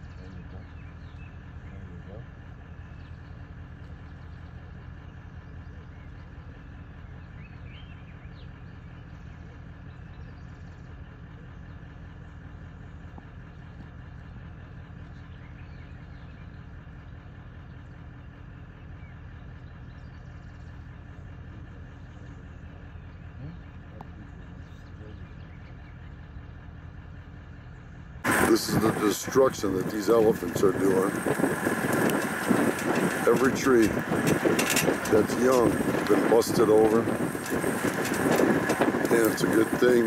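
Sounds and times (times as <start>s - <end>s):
vehicle engine idling: 0.0s - 40.0s.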